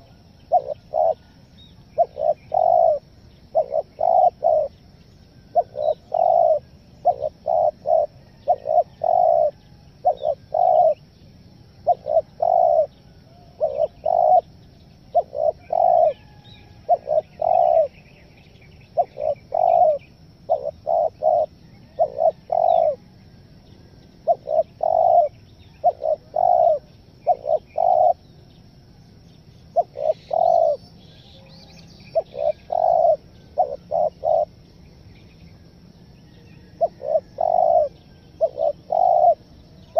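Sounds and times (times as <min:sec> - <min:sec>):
dove cooing: 0:00.0 - 0:11.1, 0:11.7 - 0:18.2, 0:18.8 - 0:28.4, 0:29.7 - 0:31.5, 0:32.1 - 0:34.7, 0:36.2 - 0:39.9.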